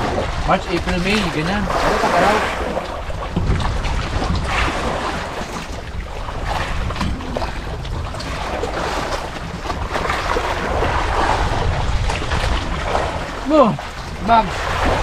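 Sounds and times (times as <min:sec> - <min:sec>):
sea noise: 0:00.0 - 0:15.0
wind rumbling on microphone: 0:00.0 - 0:15.0.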